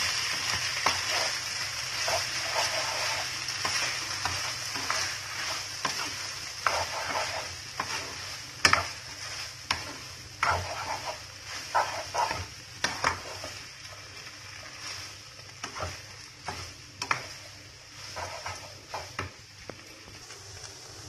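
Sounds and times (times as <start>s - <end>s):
wooden spatula scraping a pan: 0.0s - 19.4s
food sizzling in a pan: 0.0s - 21.0s.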